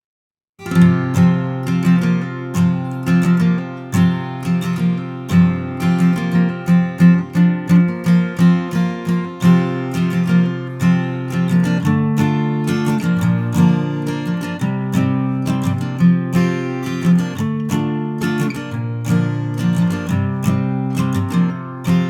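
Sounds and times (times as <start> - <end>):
acoustic guitar strumming: 0.6 - 22.0.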